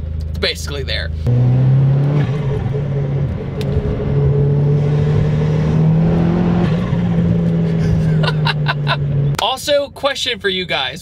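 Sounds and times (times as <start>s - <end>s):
car engine drone from cabin: 0.0s - 10.2s.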